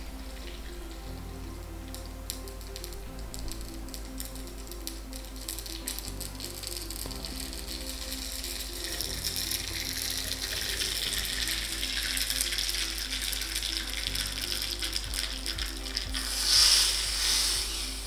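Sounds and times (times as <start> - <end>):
background music: 0.0 - 18.0
loud sizzle: 0.0 - 18.0
mustard seeds crackling in hot oil: 0.0 - 18.0.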